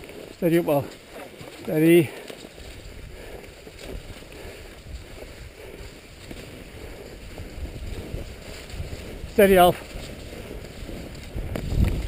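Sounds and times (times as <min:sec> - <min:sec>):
skis swishing over snow: 0:00.0 - 0:12.0
wind buffeting microphone: 0:00.0 - 0:12.0.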